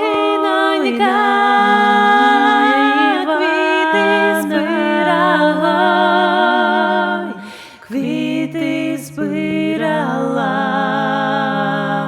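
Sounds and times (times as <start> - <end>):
a cappella harmony singing: 0.0 - 12.0.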